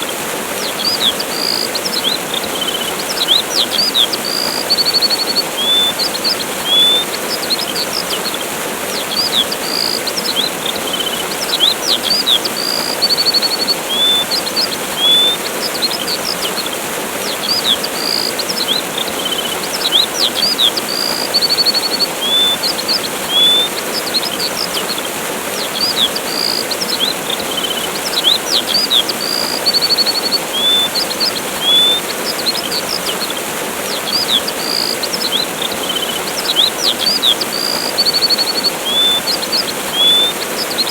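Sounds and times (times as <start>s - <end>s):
small birds chirping: 0.0s - 40.9s
waterfall rushing: 0.0s - 40.9s.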